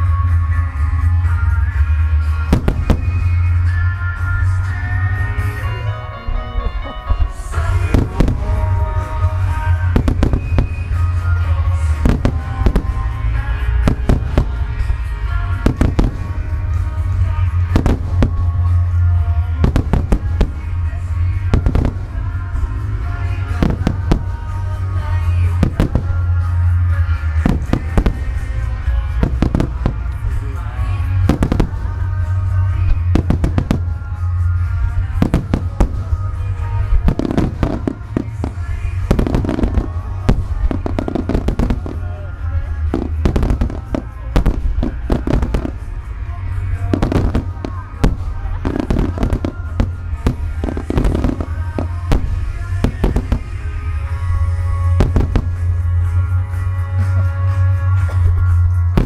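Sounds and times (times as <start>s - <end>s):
music: 0.0s - 59.0s.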